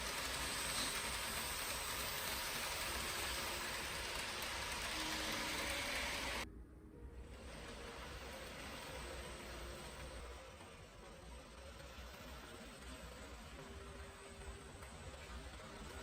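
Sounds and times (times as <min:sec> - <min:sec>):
model train wheels rattling: 0:00.0 - 0:06.4, 0:07.4 - 0:16.0.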